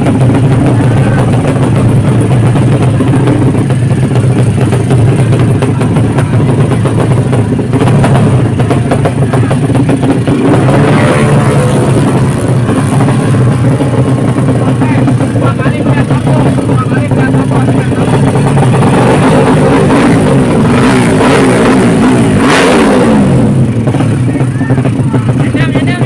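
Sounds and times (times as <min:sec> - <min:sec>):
racing motorcycle engines: 0:00.0 - 0:26.0.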